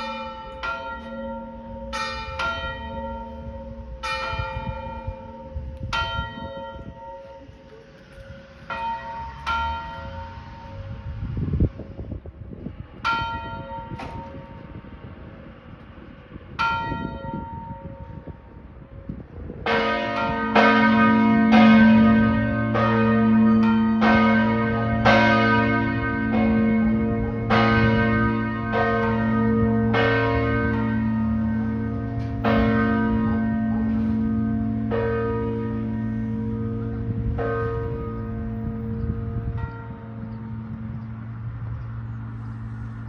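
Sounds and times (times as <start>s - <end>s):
higher church bell strokes: 0.0s - 12.0s, 12.8s - 43.0s
large church bell with deep hum: 0.0s - 43.0s.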